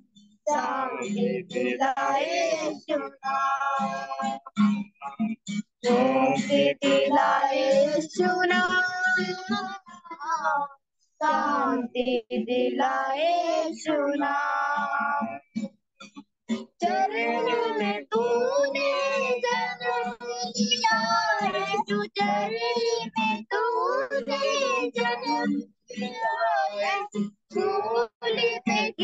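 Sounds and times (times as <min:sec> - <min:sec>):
person singing devotional song: 0:00.5 - 0:10.5, 0:11.2 - 0:15.4, 0:16.5 - 0:29.0.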